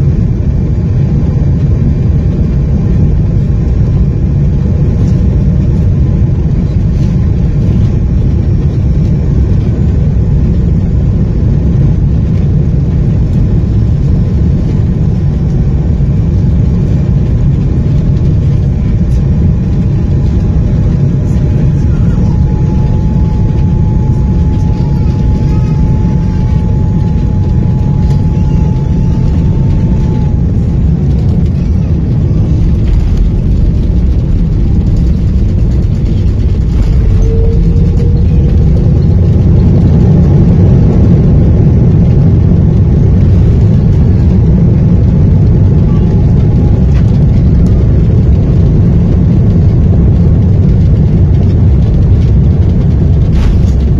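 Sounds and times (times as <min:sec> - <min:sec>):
thin whine: 0:00.0 - 0:49.5
jet engines and airflow rumble: 0:00.0 - 0:53.9.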